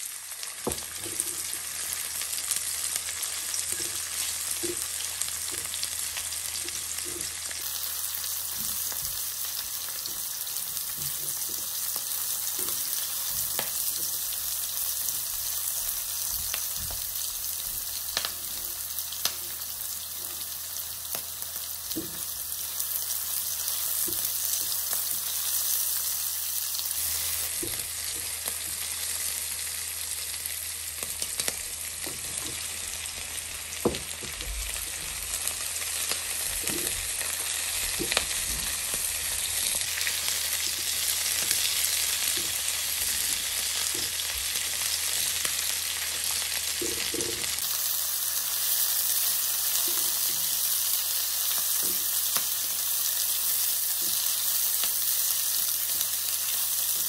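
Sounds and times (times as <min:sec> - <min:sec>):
onions sizzling in hot oil: 0:00.0 - 0:57.0.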